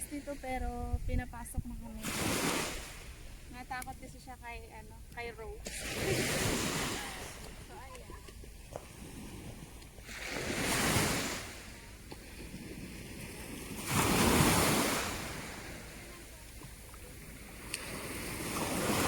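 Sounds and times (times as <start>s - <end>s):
waves washing onto sand beach: 0.0s - 19.0s.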